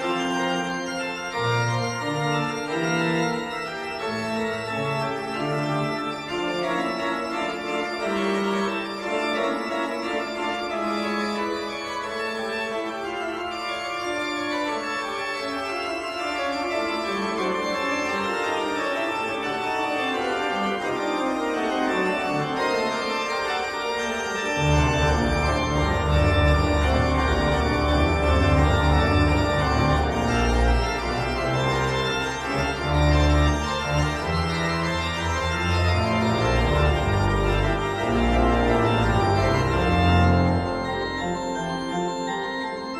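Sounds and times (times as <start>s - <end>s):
sustained keyboard chords: 0.0s - 42.9s.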